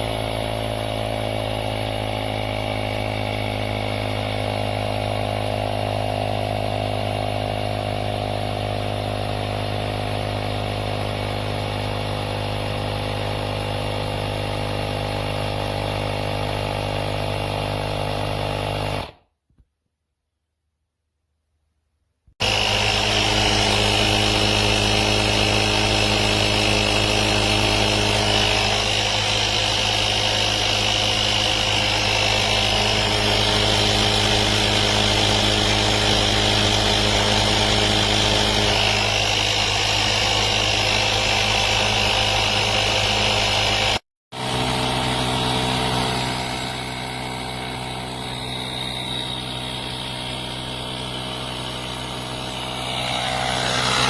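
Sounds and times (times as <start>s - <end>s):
air compressor humming and whining: 0.0s - 19.2s, 22.4s - 54.0s.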